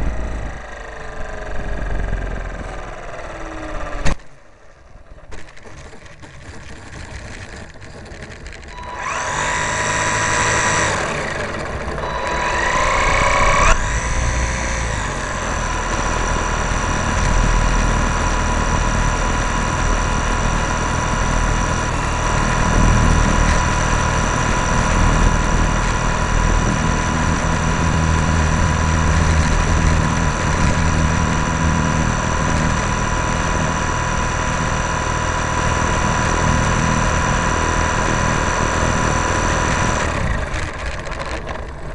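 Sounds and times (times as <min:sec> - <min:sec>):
model airplane motor whine: 0:00.0 - 0:41.9.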